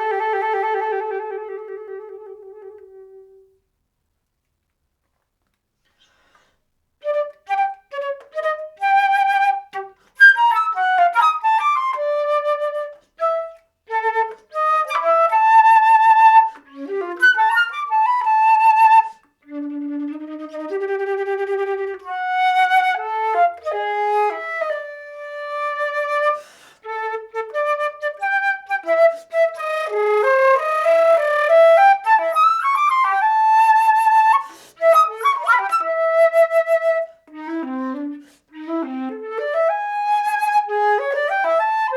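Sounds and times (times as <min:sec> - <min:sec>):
solo flute playing: 0:00.0 - 0:03.6, 0:07.0 - 0:41.9.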